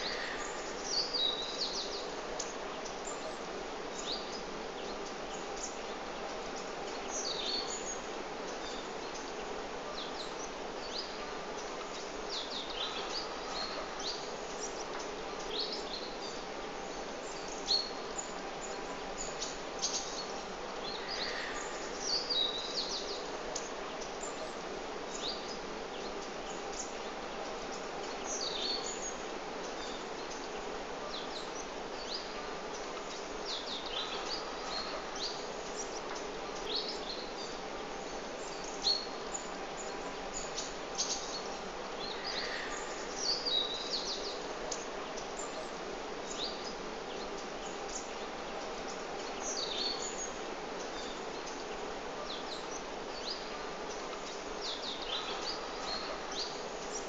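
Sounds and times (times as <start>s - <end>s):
background hiss: 0.0s - 57.0s
birds chirping: 0.0s - 57.0s.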